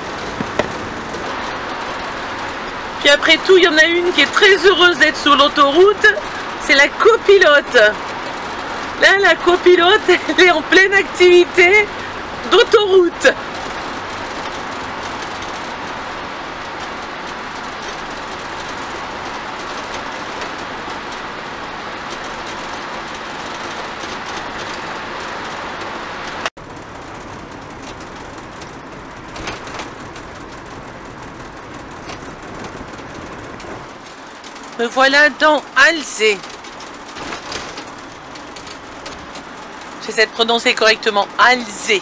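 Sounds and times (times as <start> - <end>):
tyre and engine road noise: 0.0 - 42.0.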